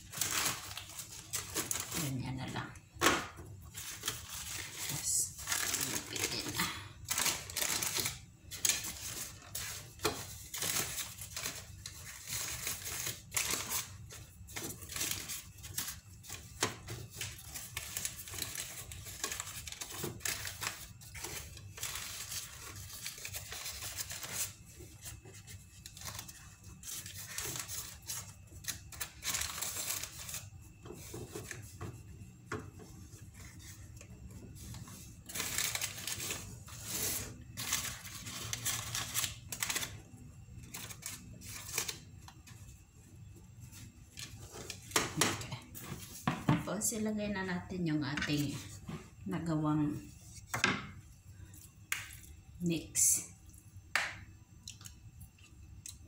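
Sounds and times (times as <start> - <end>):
wax paper crinkling: 0.0 - 52.4.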